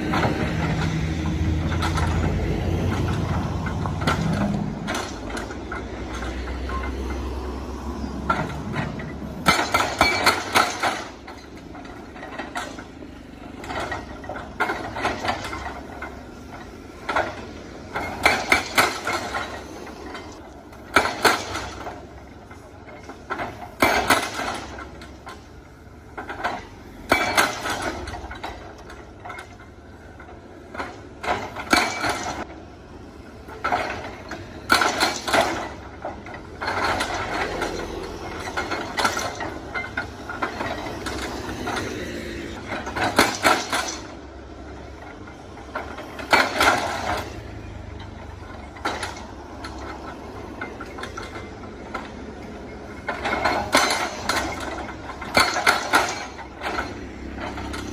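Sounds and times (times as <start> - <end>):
excavator engine running: 0.0 - 57.9
hydraulic breaker hammering rock: 8.2 - 13.0, 13.6 - 25.6, 26.2 - 32.5, 33.5 - 47.6, 48.4 - 57.9.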